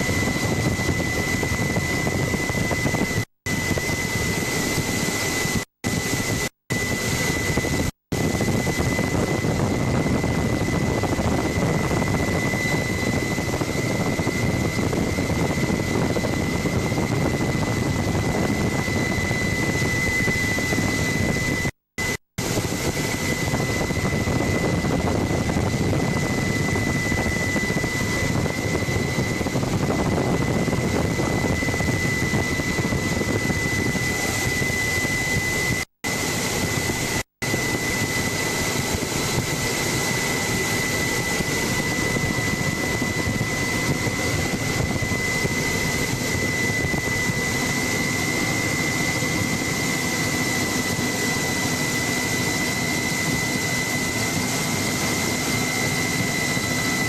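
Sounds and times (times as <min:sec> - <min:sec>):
helicopter cabin drone and whine: 0:00.0 - 0:57.0.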